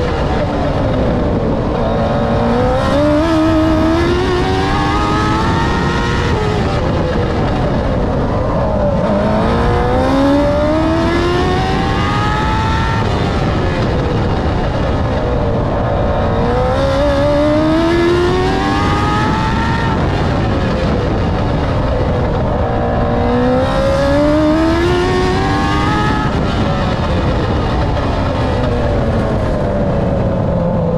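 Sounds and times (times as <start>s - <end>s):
race car engine accelerating: 0.0s - 30.9s.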